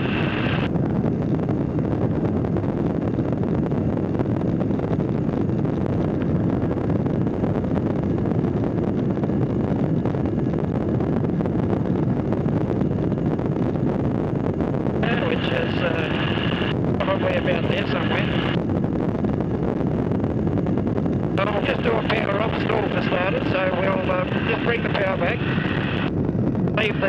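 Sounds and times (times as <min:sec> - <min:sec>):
light aircraft engine: 0:00.0 - 0:27.0
wind noise: 0:00.0 - 0:27.0.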